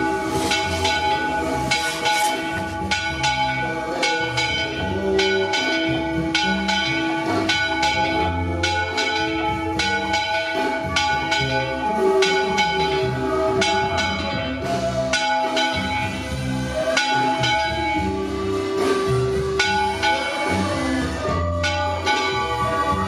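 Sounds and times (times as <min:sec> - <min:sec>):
bells ringing: 0:00.0 - 0:23.0.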